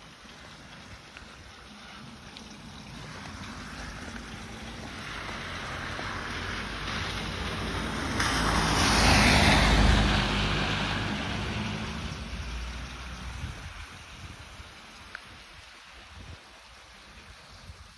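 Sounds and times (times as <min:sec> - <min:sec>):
tyres hissing through water: 0:00.0 - 0:17.9.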